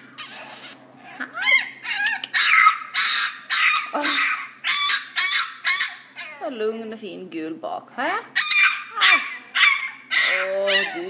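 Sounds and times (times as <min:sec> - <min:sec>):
puppies yapping: 0:00.1 - 0:06.5, 0:08.4 - 0:11.0.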